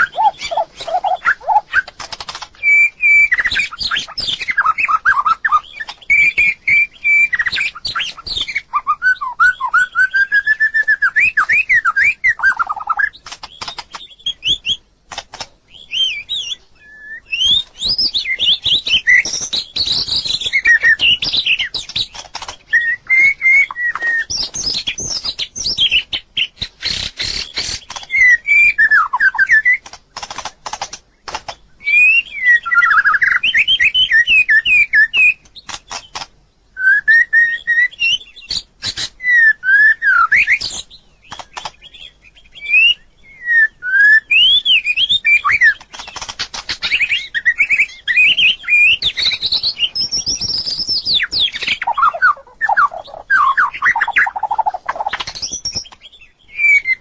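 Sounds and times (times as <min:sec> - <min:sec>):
bird whistling song: 0:00.0 - 0:14.9, 0:15.7 - 0:29.9, 0:31.1 - 0:57.0
sharp bird clicks: 0:00.0 - 0:16.6, 0:17.3 - 0:36.4, 0:37.3 - 0:57.0.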